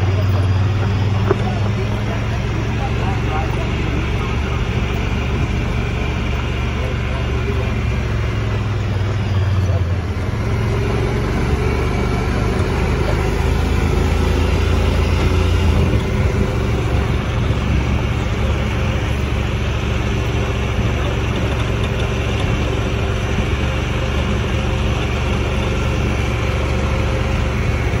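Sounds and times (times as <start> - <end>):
road noise: 0.0 - 28.0
vehicle engine humming: 0.0 - 28.0.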